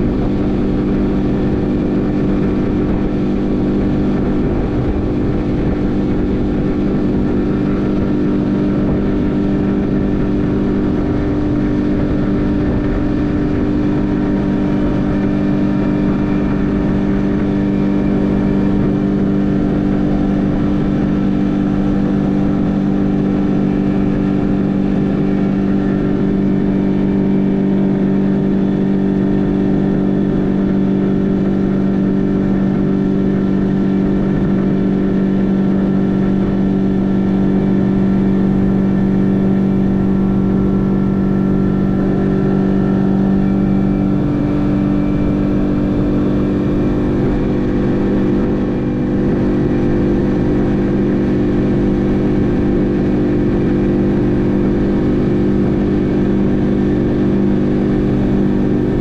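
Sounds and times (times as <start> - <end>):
outboard motor droning: 0.0 - 59.0.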